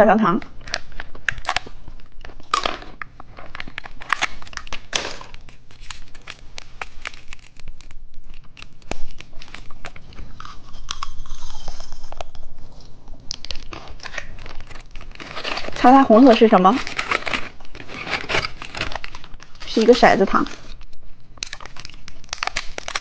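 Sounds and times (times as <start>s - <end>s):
plastic packaging crinkling and tearing: 0.4s - 23.0s.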